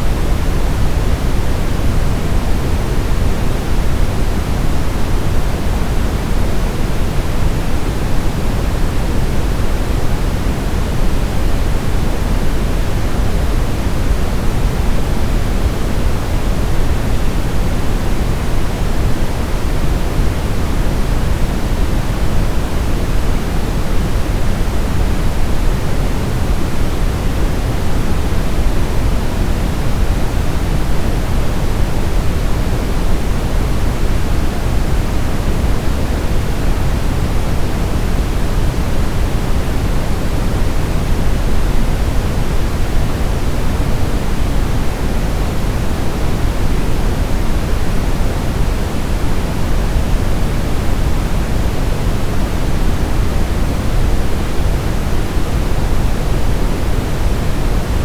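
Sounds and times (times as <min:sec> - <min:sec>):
steady pink noise hiss: 0:00.0 - 0:58.0.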